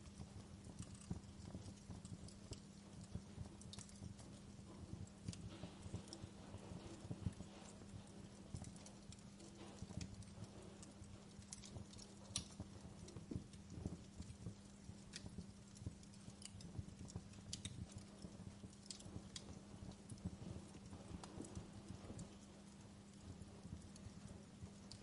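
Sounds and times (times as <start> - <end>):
low steady hum: 0.0 - 25.0
wood fire crackling: 0.0 - 25.0.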